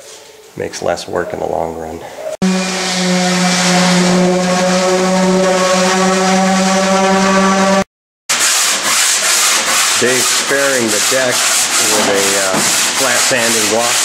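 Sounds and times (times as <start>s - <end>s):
sanding block rubbing on wood: 2.4s - 14.0s.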